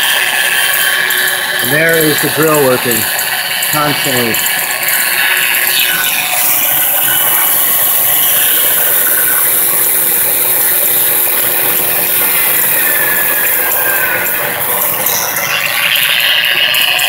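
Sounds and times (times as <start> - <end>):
electric drill running: 0.0 - 17.0
high whine: 0.0 - 17.0
motor-generator running: 0.0 - 17.0.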